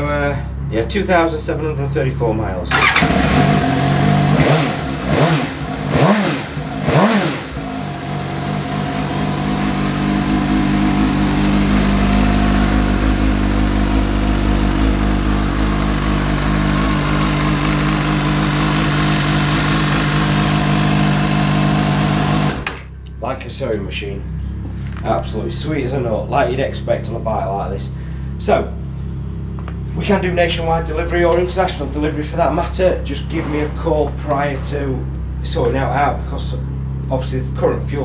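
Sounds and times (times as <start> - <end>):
motorcycle engine revving and idling: 2.7 - 38.0.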